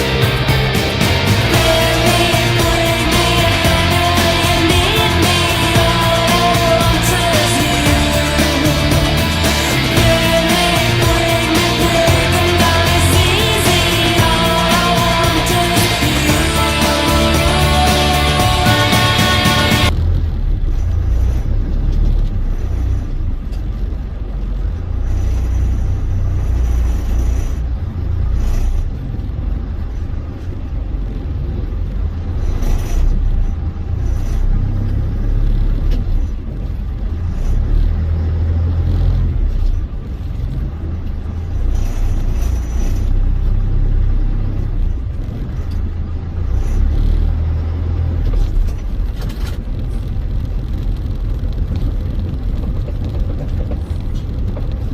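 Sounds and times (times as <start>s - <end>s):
vehicle engine rumbling: 0.0s - 54.9s.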